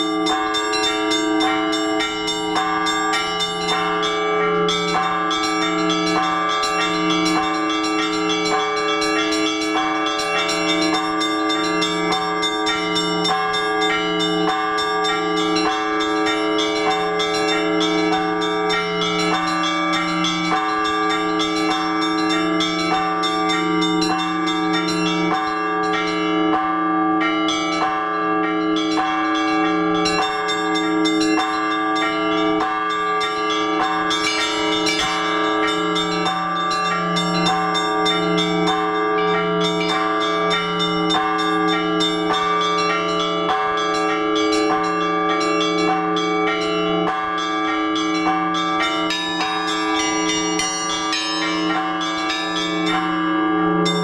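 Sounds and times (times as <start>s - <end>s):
church bells ringing: 0.0s - 54.0s
hum of large bells: 0.0s - 54.0s.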